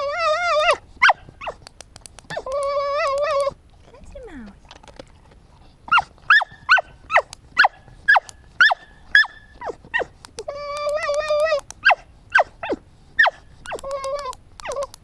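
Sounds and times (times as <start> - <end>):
dog whining and yelping: 0.0 - 3.6, 5.9 - 15.0.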